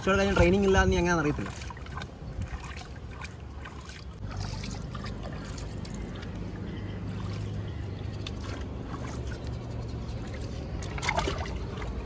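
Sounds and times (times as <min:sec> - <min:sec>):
low steady rumble: 0:00.0 - 0:12.0
water splashing in shallow river: 0:00.0 - 0:12.0.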